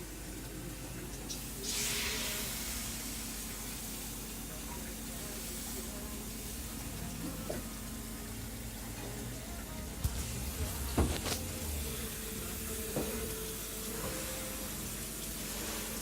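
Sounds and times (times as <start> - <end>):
food sizzling in a pan: 1.2 - 9.0, 10.0 - 16.0.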